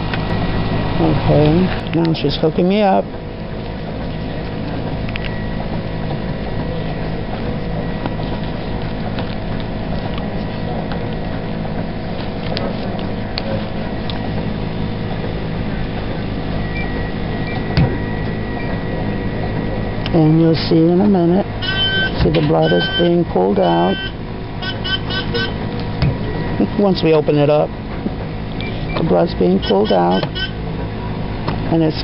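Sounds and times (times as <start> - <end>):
machine humming: 0.0 - 32.0.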